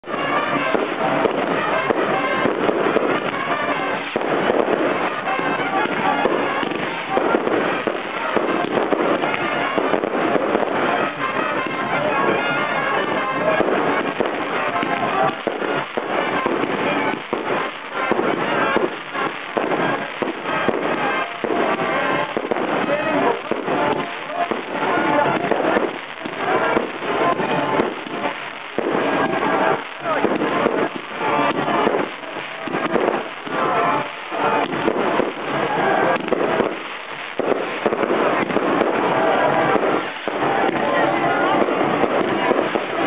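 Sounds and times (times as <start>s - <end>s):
fireworks popping and banging: 0.0s - 43.0s.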